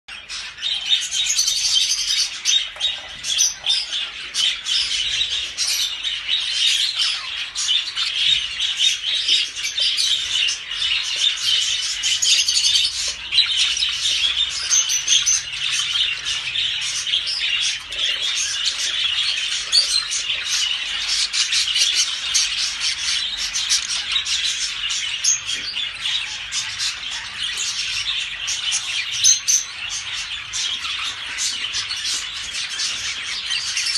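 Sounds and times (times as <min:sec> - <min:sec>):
flock of small birds chirping: 0:00.0 - 0:33.9.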